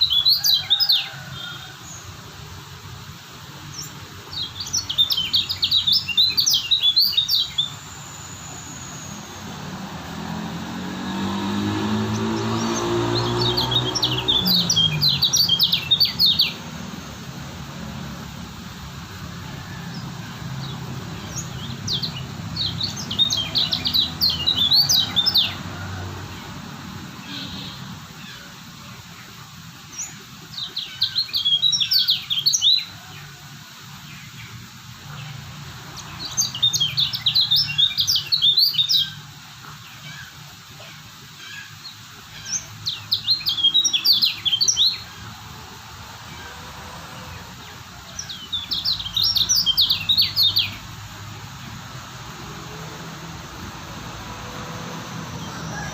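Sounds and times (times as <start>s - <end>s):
bird chirping warbles: 0.0s - 2.1s, 3.5s - 18.2s, 19.2s - 25.7s, 26.3s - 33.3s, 34.0s - 55.9s.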